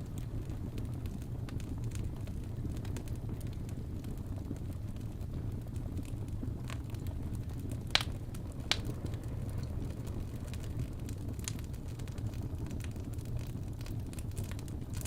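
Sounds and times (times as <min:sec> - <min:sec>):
sharp pops from fire: 0:00.0 - 0:15.0
wood fire crackling: 0:00.0 - 0:15.0.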